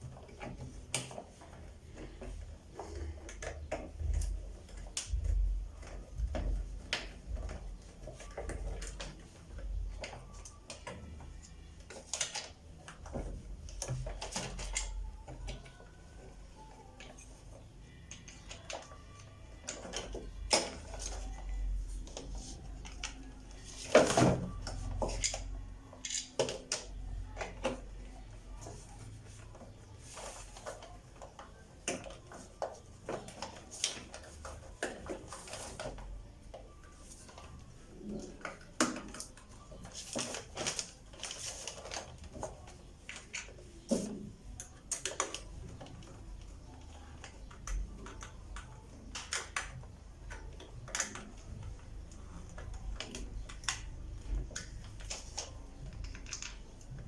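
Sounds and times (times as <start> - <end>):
clicks and taps on plastic parts: 0.0 - 29.8, 30.5 - 57.0.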